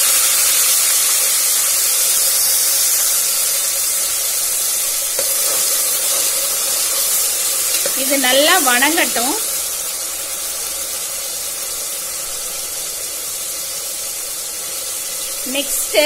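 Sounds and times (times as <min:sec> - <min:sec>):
onion paste sizzling in oil: 0:00.0 - 0:16.0.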